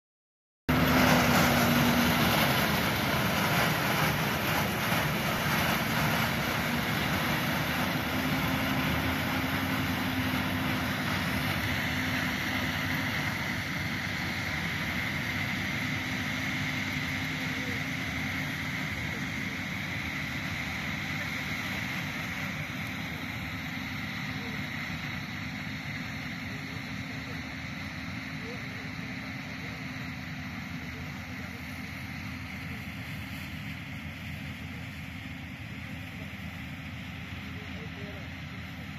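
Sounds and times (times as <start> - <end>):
combine harvester drone: 0.7 - 38.9.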